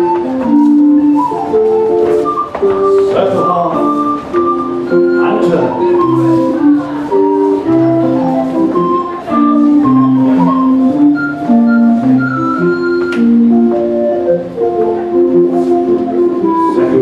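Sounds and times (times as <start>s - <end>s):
instrumental country dance tune: 0.0s - 17.0s.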